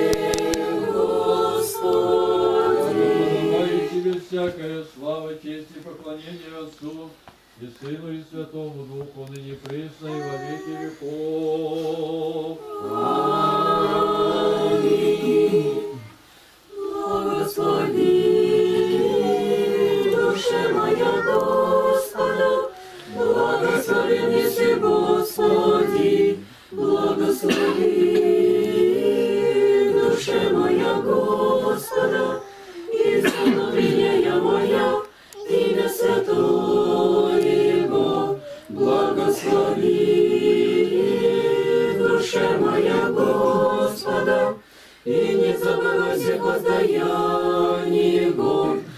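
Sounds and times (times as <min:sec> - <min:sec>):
congregation chanting a cappella: 0:00.0 - 0:07.0, 0:07.8 - 0:48.9.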